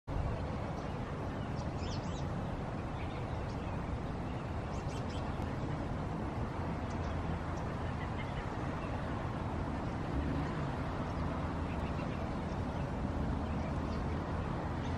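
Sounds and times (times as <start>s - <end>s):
low outdoor rumble: 0.1s - 14.9s.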